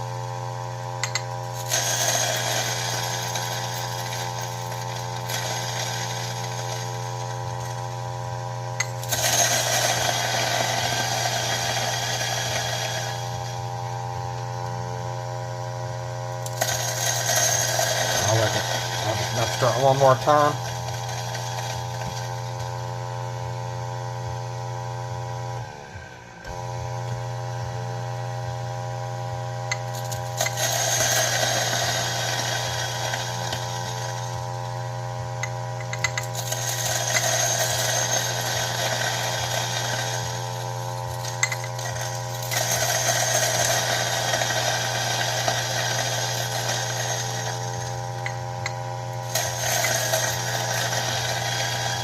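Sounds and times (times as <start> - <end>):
coffee grinder motor humming: 0.0 - 52.0
coffee beans crunching in grinder: 1.0 - 14.8, 16.4 - 23.1, 29.7 - 52.0.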